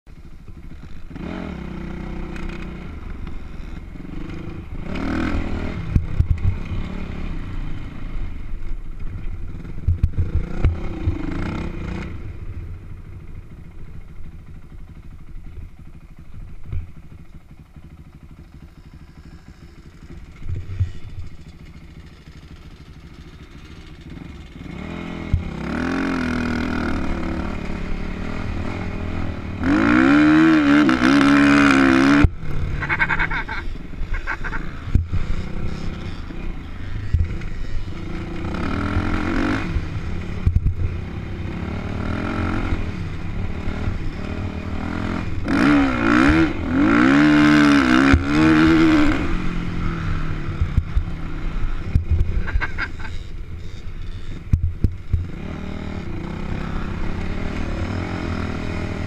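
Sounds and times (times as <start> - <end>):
dirt bike engine revving: 0.1 - 17.2, 17.8 - 59.0.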